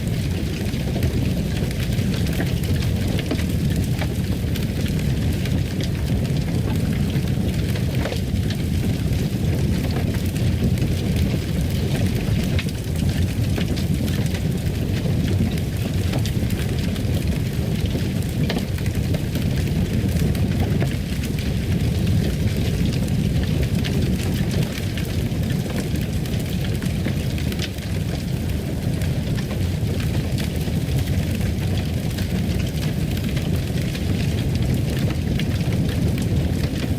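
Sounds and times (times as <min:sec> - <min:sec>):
fire burning low rumble: 0:00.0 - 0:36.9
fire crackles and pops: 0:00.0 - 0:36.9.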